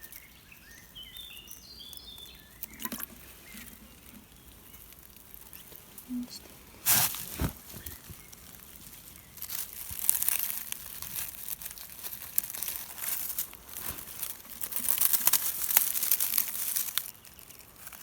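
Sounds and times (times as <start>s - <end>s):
rustling and crinkling: 0.0s - 18.0s.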